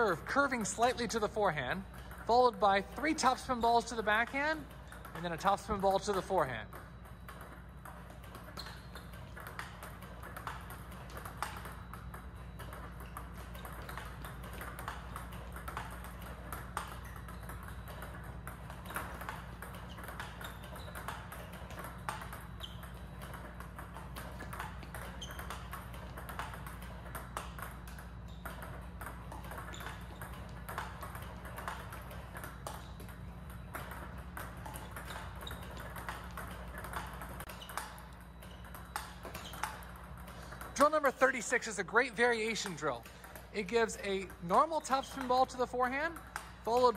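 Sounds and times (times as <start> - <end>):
table tennis ball clicks: 0.0 - 46.9.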